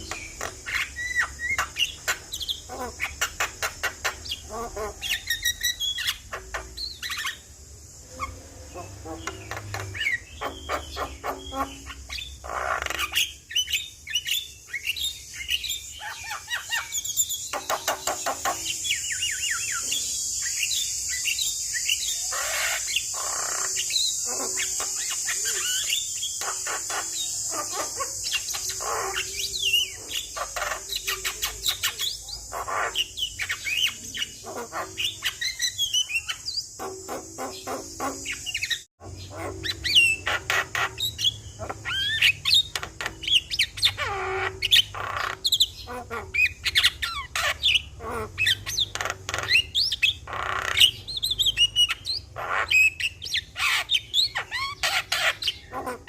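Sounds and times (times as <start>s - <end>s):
steady high hiss: 0.0s - 45.8s
bird harsh chattering calls: 0.0s - 56.0s.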